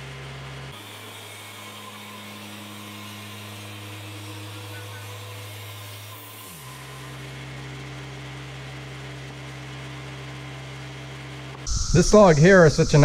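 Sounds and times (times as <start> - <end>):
sawmill engine running: 0.3 - 13.0.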